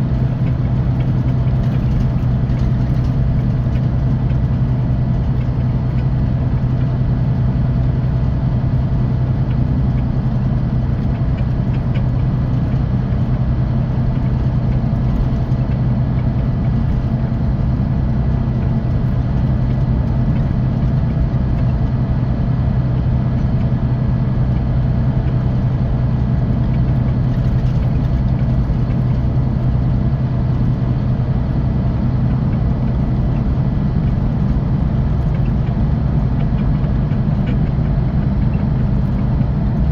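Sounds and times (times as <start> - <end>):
diesel coach engine droning: 0.0 - 39.9.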